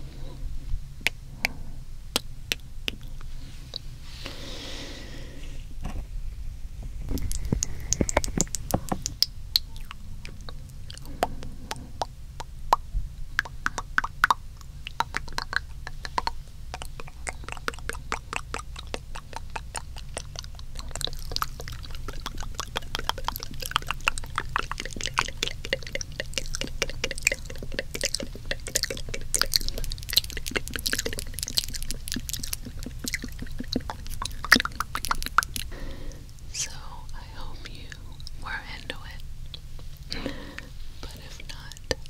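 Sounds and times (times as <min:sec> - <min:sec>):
lip smacks: 0:00.0 - 0:04.9, 0:07.1 - 0:42.0
tongue clicks: 0:01.0 - 0:03.9, 0:07.1 - 0:42.0.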